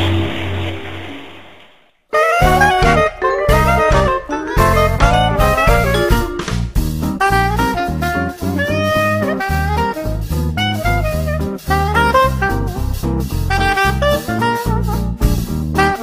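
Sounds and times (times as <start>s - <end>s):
swing jazz music: 2.1s - 16.0s.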